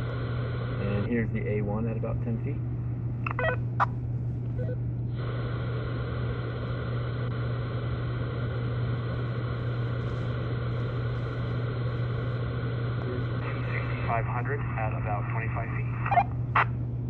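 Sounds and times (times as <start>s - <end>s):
radio static hiss: 0.0s - 2.6s, 4.6s - 16.8s
low hum: 0.0s - 17.0s.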